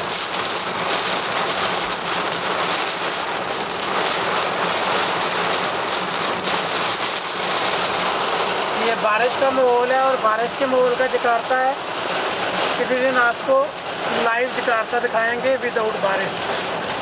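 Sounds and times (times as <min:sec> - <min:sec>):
heavy rain on car roof: 0:00.0 - 0:17.0.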